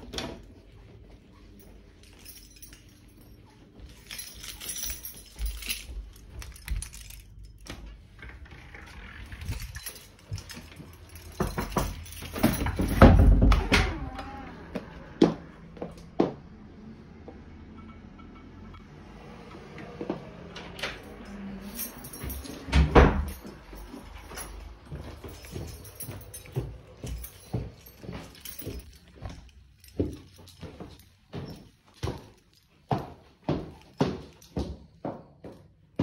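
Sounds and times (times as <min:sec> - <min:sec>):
footsteps: 0:00.0 - 0:08.0, 0:09.0 - 0:16.4, 0:21.0 - 0:35.7.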